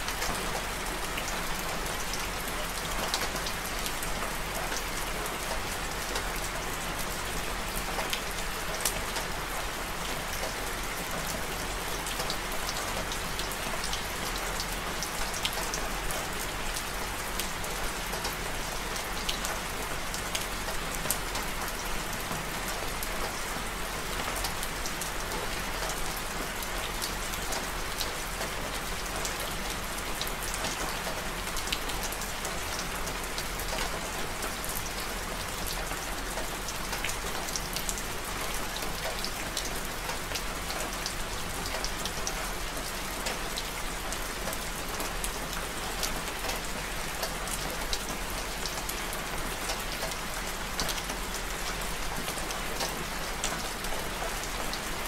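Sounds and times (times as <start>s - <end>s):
raindrops ticking on surfaces: 0.0s - 55.0s.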